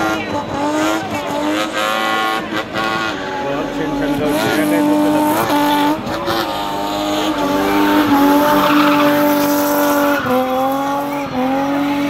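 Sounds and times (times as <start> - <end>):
car engine at high revs: 0.0 - 12.0
tyres squealing: 0.1 - 12.0.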